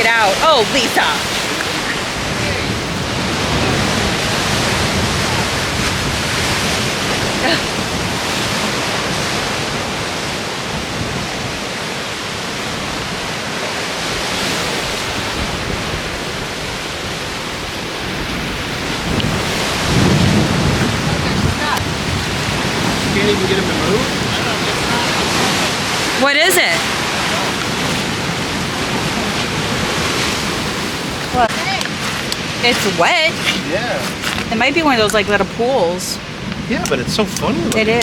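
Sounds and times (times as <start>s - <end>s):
ocean surf rushing: 0.0s - 38.0s
wind buffeting microphone: 0.0s - 38.0s.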